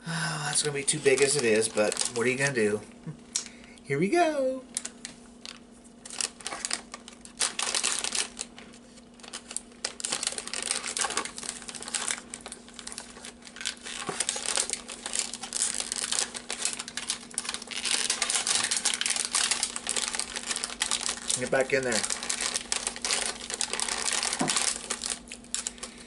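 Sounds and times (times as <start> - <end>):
plastic wrapper crinkling: 0.4 - 3.6, 4.6 - 26.0.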